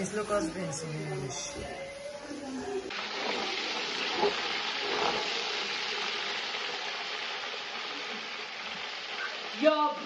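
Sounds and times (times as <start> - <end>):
oil sizzling in a pot: 1.6 - 10.0.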